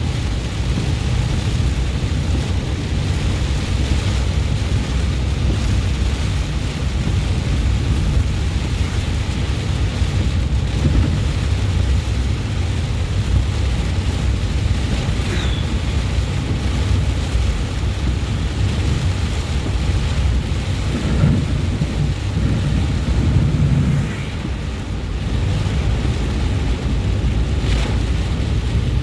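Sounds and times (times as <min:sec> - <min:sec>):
car driving through rain: 0:00.0 - 0:29.0.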